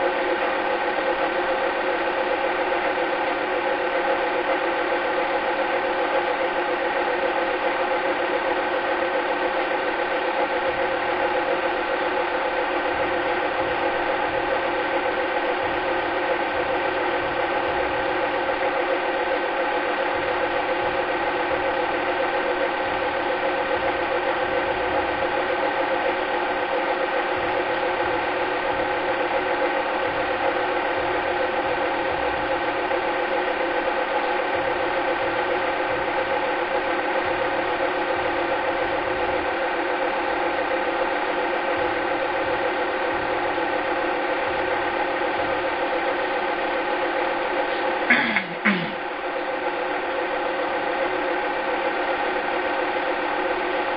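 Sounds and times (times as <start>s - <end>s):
film projector whirring: 0.0s - 53.9s.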